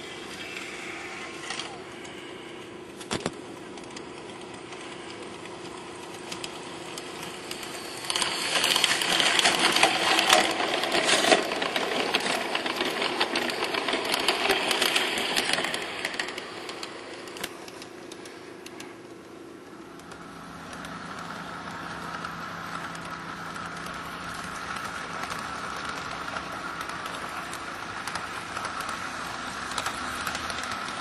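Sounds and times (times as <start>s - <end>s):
model train motor whirring: 0.0s - 2.7s, 3.8s - 18.9s, 19.9s - 31.0s
model train wheels clicking: 0.0s - 31.0s.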